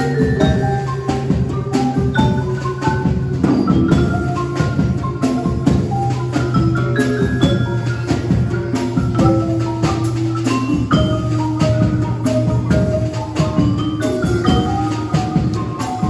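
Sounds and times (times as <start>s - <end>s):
drum strokes: 0.0s - 16.0s
tuned mallet percussion melody: 0.0s - 16.0s.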